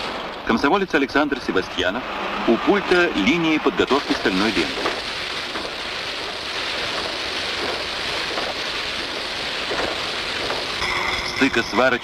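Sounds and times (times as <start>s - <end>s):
steady industrial rushing noise: 0.0s - 12.0s.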